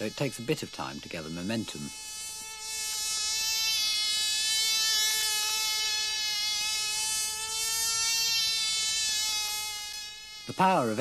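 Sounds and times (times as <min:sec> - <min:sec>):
model aircraft engine buzzing: 0:00.0 - 0:11.0.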